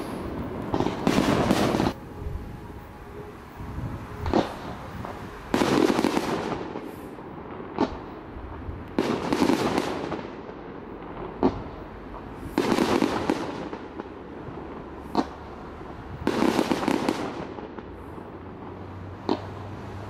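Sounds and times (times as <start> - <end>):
crackling firework bursts: 0.0 - 2.2, 3.9 - 20.0
firework bangs: 0.0 - 19.7.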